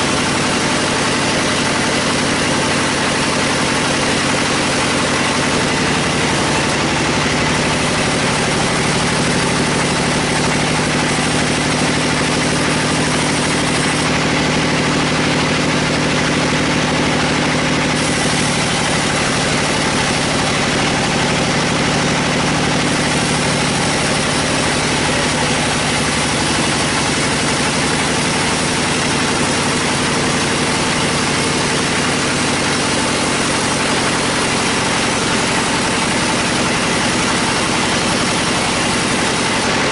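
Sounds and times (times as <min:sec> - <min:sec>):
sawmill mechanical drone: 0:00.0 - 0:39.9.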